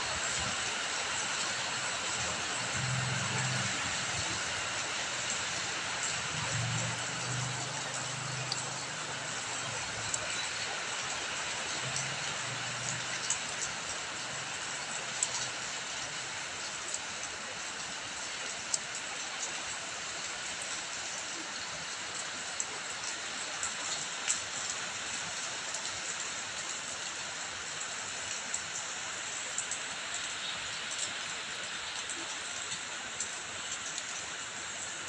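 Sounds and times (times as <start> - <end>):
running water: 0.0 - 35.0
steady rain: 0.0 - 35.0.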